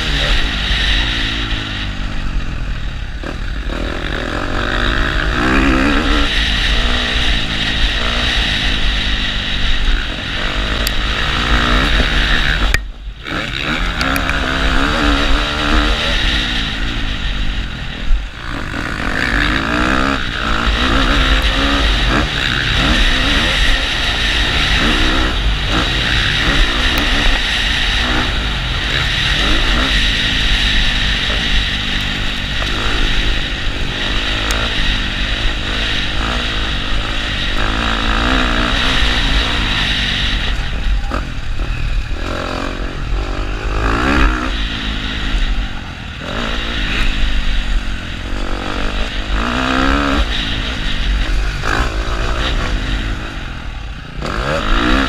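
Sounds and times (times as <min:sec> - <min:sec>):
motocross bike engine revving: 0:00.0 - 0:55.0
wind noise: 0:00.0 - 0:55.0.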